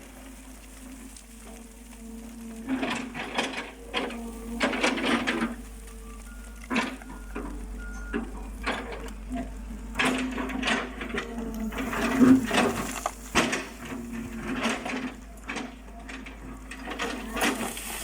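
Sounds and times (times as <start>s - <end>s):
excavator engine hum: 0.0s - 18.0s
excavator clanks and knocks: 2.3s - 18.0s.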